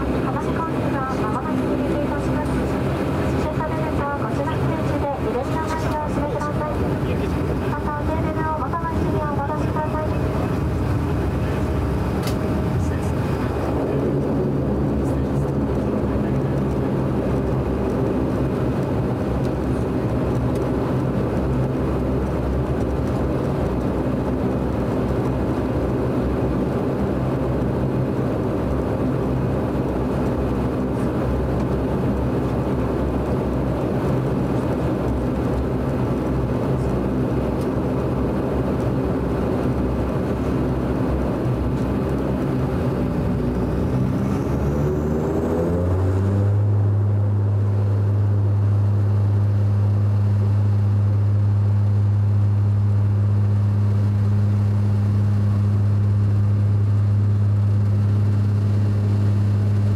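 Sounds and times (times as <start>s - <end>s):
turboprop engine drone in cabin: 0.0s - 59.9s.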